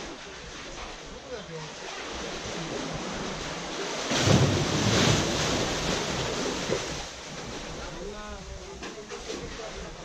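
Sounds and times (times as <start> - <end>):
sea water surging into rocks: 0.0 - 8.6.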